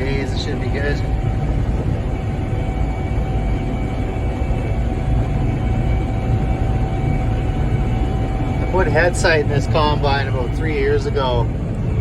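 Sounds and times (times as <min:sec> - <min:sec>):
combine engine and threshing drone: 0:00.0 - 0:12.0
thin steady whine: 0:00.0 - 0:12.0.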